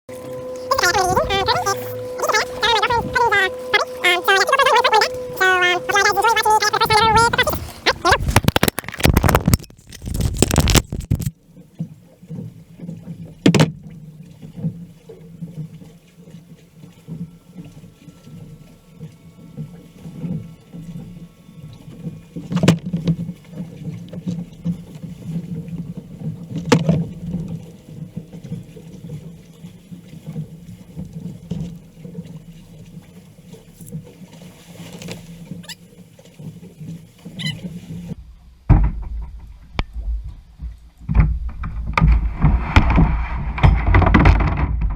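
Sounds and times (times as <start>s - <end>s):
kayak paddle strokes in water: 0.1s - 44.9s.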